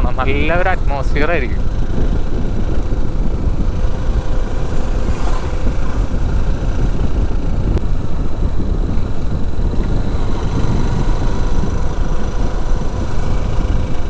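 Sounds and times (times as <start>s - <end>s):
motorcycle engine: 0.0s - 14.0s
wind and road noise: 0.0s - 14.0s.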